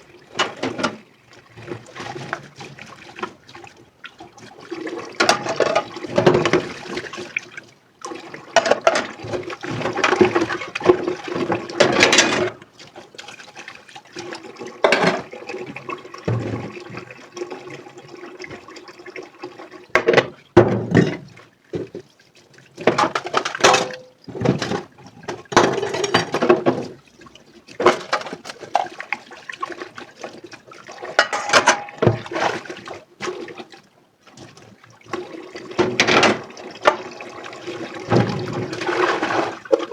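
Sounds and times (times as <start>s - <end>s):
running water at a sink: 0.0s - 39.9s.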